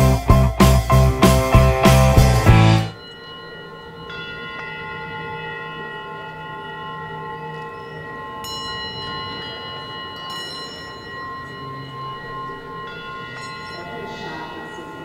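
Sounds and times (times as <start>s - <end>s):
singing bowls ringing: 2.9s - 15.0s.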